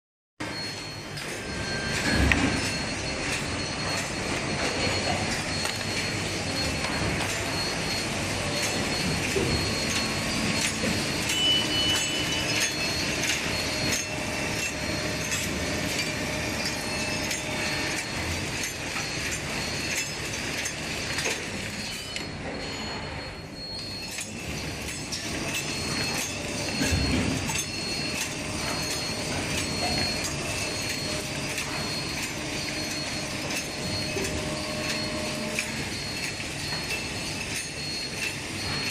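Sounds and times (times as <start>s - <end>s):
packing machines clattering: 0.4s - 38.9s.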